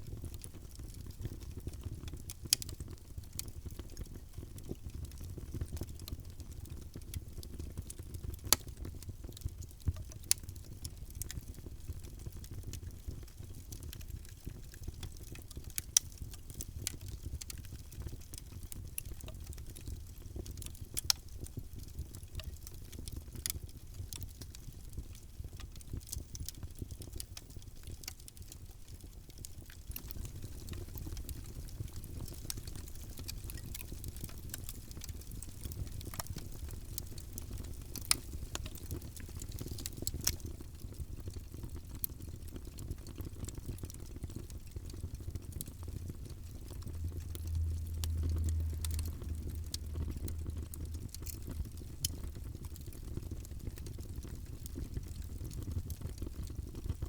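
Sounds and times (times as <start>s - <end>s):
low rumble of flame: 0.0s - 57.0s
wood fire crackling: 0.1s - 57.0s.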